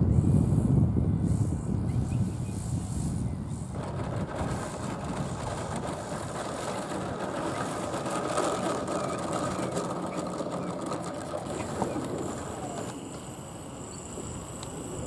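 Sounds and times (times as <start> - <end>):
model airplane motor running: 2.7 - 15.0.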